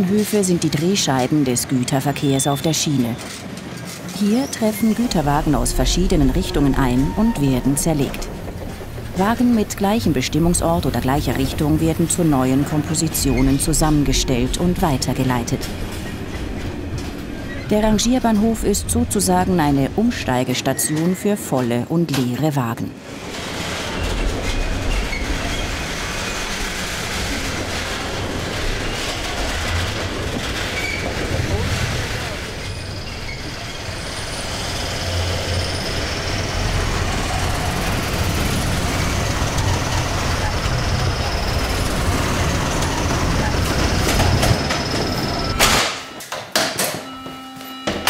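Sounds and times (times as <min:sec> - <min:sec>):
wheels rumbling on rail: 0:00.0 - 0:22.4, 0:23.0 - 0:45.6.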